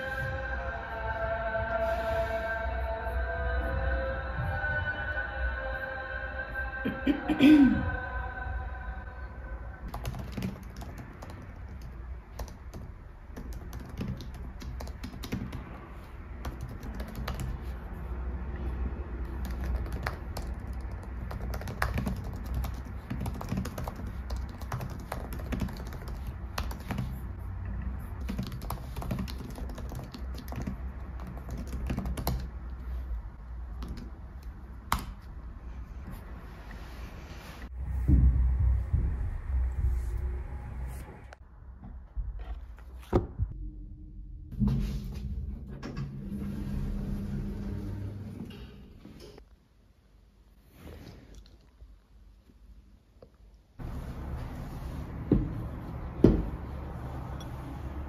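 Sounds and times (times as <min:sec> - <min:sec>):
steady low hum: 0:00.0 - 0:49.4.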